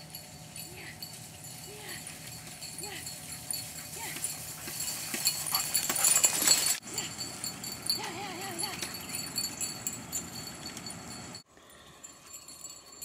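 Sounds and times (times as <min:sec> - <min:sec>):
tricycle rattling over grass: 0:00.0 - 0:11.2.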